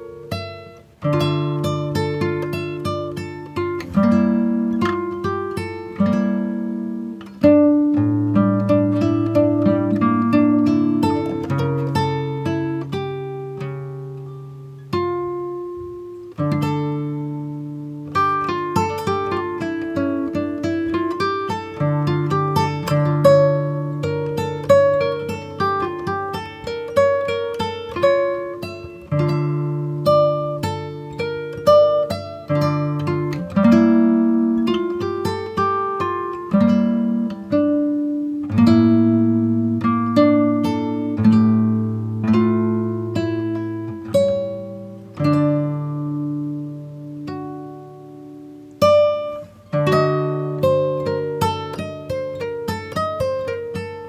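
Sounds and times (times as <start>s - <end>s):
acoustic guitar music: 0.0s - 54.0s.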